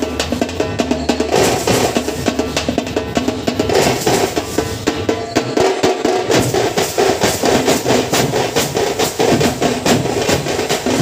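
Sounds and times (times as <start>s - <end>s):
large drums beating fast: 0.0s - 11.0s.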